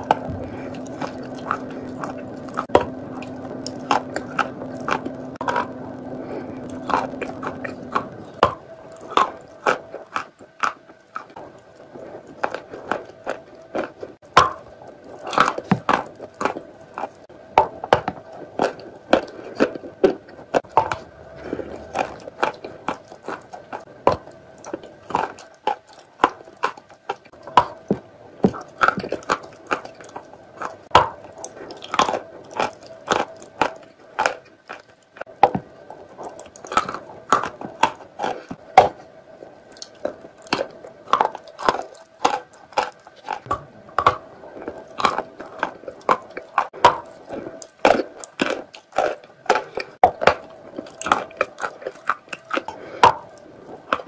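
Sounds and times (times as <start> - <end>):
crunching and chewing chalk: 0.0 - 54.0
faint steady hum: 0.0 - 54.0.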